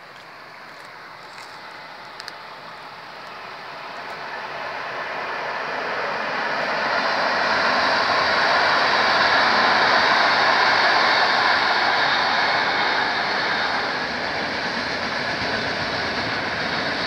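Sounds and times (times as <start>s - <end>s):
train crossing a bridge: 0.0s - 17.0s.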